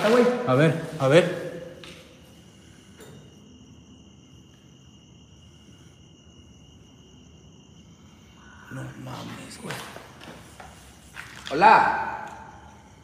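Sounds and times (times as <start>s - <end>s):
crickets chirping faintly: 0.0s - 13.0s.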